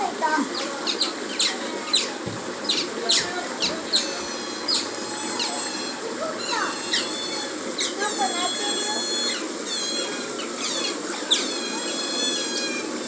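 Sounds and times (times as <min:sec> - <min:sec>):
otters chirping: 0:00.4 - 0:12.8.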